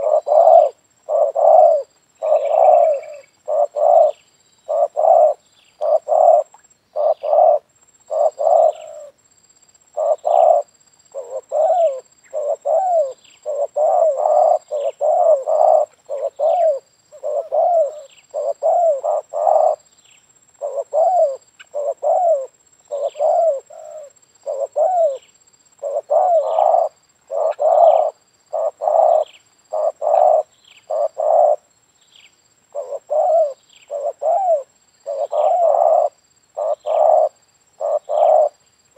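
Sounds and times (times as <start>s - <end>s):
dove cooing: 0.0s - 9.2s, 9.9s - 19.9s, 20.6s - 31.7s, 32.7s - 38.6s.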